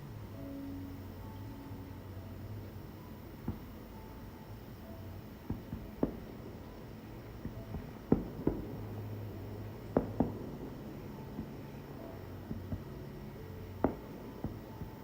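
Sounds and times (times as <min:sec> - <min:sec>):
distant fireworks bursting: 0:02.5 - 0:15.0.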